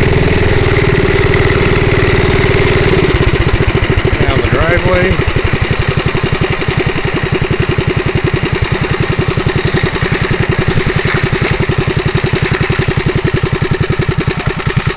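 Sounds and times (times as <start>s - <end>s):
small engine idling: 0.0s - 14.9s.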